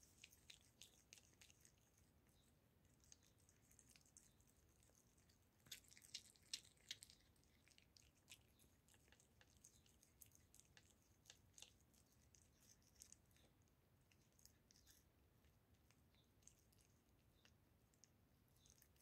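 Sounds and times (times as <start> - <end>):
teeth clicking on bone: 0.0 - 2.0, 2.9 - 15.1, 15.8 - 19.0
cat chewing bone: 0.0 - 19.0.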